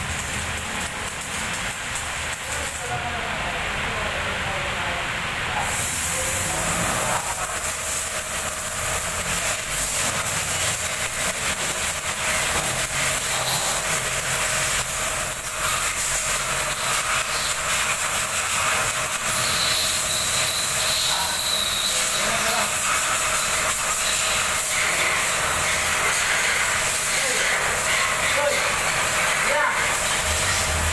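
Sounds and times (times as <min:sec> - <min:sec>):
welding arc crackling and hissing: 0:00.0 - 0:30.9.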